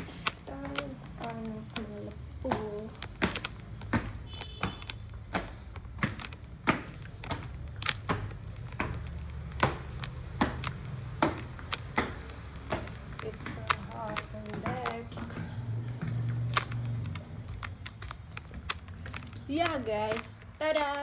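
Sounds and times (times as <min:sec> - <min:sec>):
sharp taps and clicks: 0:00.0 - 0:21.0.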